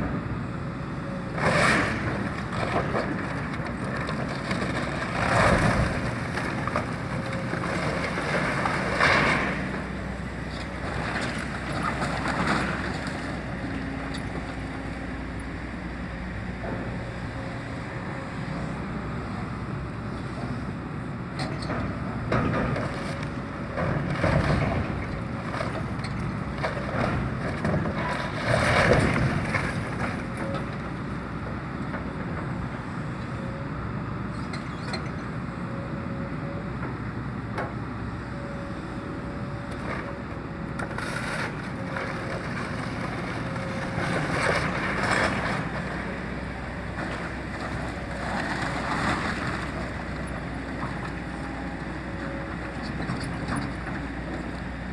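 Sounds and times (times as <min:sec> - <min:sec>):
excavator engine running: 0:00.0 - 0:54.9.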